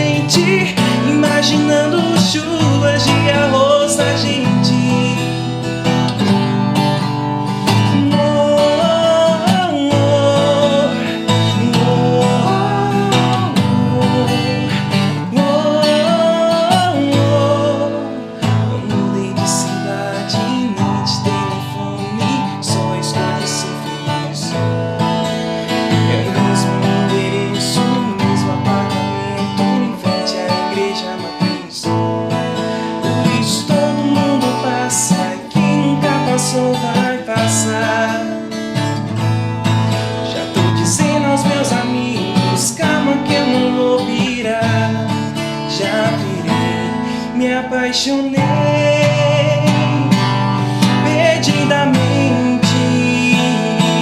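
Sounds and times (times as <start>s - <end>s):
acoustic guitar strumming: 0.0s - 54.0s
wordless melody line: 0.0s - 54.0s.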